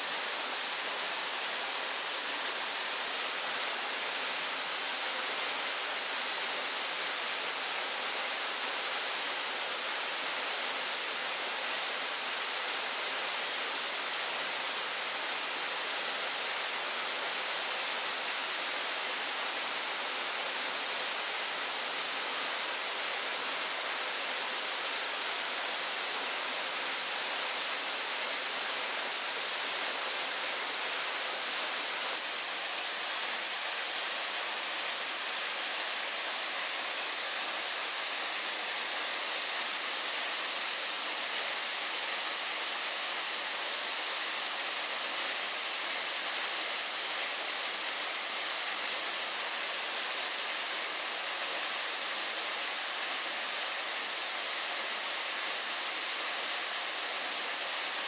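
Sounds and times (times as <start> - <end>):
rushing water hiss: 0.0 - 58.0.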